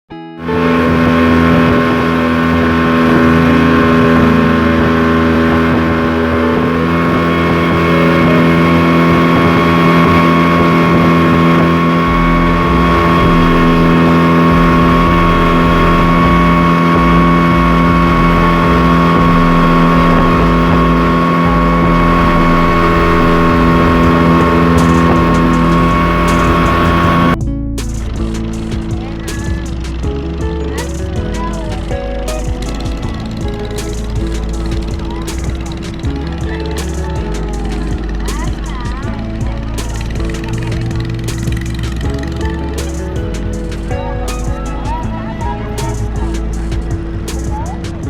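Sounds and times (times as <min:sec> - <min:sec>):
boat engine droning: 0:00.4 - 0:48.0.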